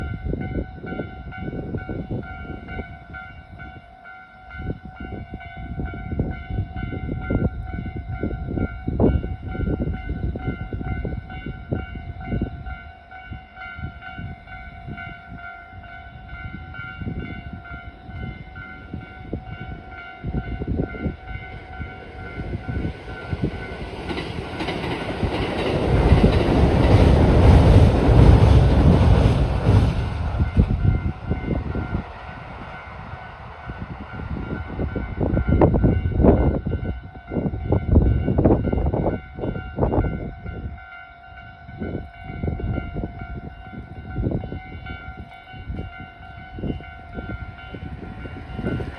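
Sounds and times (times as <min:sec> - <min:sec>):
level-crossing warning bell ringing: 0:00.0 - 0:48.9
train running noise: 0:00.0 - 0:48.9.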